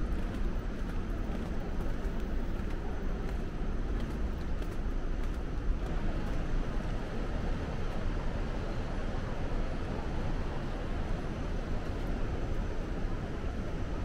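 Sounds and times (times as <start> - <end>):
steady rushing noise with rumble: 0.0 - 14.0.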